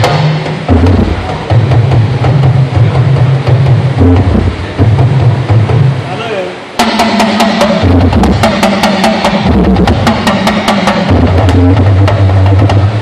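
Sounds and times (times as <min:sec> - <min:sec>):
talking drum strokes: 0:00.0 - 0:13.0.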